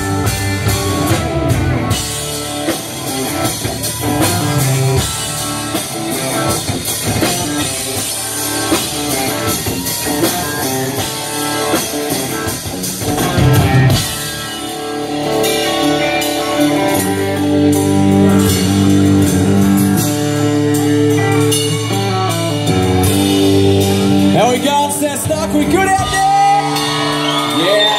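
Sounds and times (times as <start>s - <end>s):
country rock band playing: 0.0s - 27.9s.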